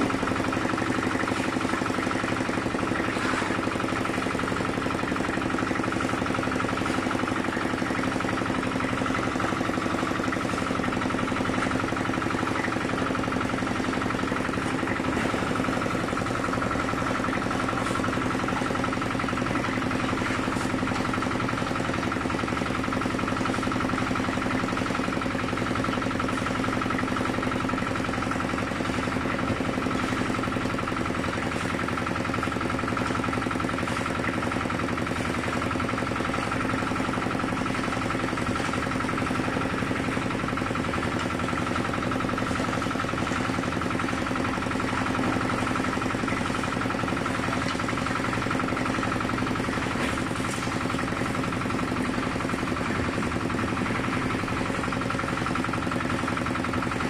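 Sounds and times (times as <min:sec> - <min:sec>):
concrete mixer engine humming: 0:00.0 - 0:57.0.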